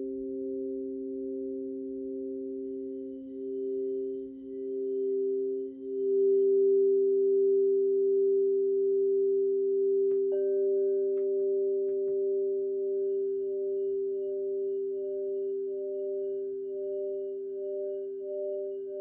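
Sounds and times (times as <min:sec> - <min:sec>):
bowl being struck: 0:00.0 - 0:19.0
crystal singing bowls ringing: 0:00.0 - 0:19.0.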